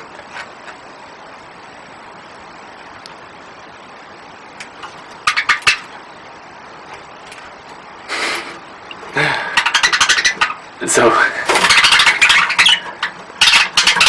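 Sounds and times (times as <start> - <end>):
steady hiss: 0.0 - 13.5.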